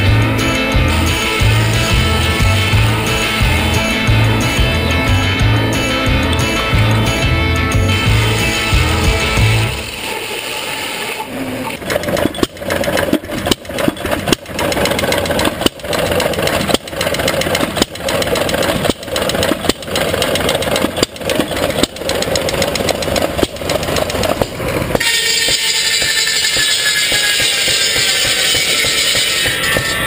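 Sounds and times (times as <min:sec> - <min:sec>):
hit-and-miss engine firing pulses: 0:00.0 - 0:30.0.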